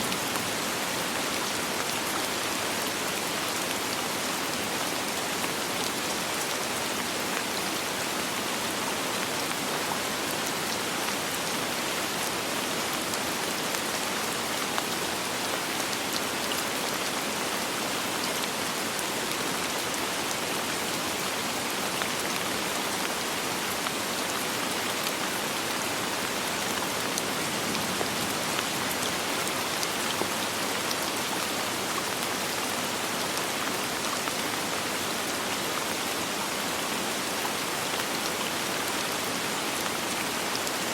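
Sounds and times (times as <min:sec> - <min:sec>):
soft rain falling: 0:00.0 - 0:40.9.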